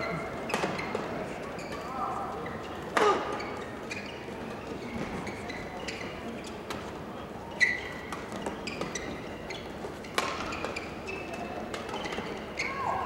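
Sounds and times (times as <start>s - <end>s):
shoes squeaking on court: 0.0s - 12.9s.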